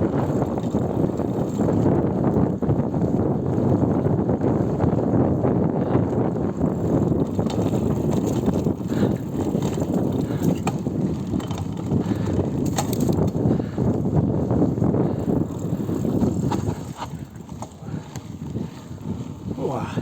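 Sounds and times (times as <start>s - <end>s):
bicycle drivetrain rattle: 0.0s - 20.0s
rumble of tyres and wind: 0.0s - 20.0s.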